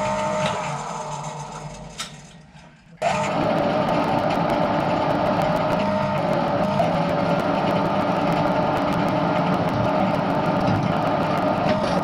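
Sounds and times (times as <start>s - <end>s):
metal lathe running: 0.0s - 12.0s.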